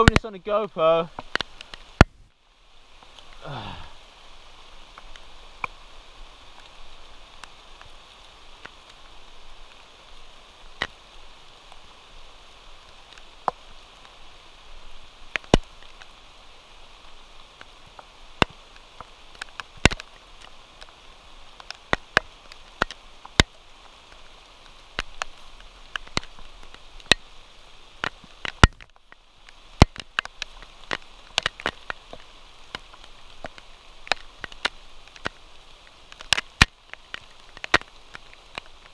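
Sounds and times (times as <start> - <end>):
sharp taps of raindrops: 0.0 - 38.9
steady rain hiss: 0.0 - 38.9.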